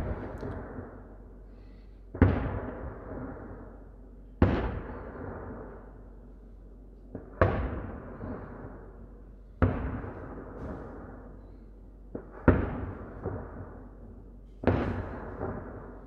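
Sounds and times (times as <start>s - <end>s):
firework booms with echo: 0.0s - 6.1s, 7.1s - 16.0s.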